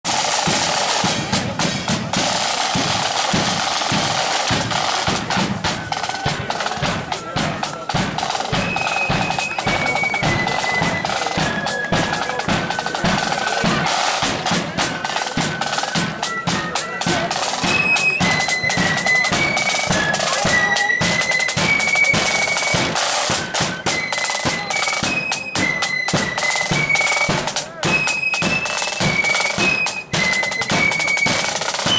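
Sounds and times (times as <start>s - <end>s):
snare drums marching rhythm: 0.0s - 31.9s
flutes playing high melody: 0.1s - 31.9s.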